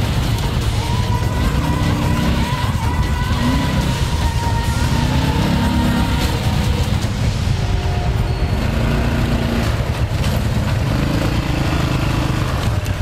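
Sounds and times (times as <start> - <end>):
quad bike engine revving: 0.0 - 7.2, 7.8 - 13.0.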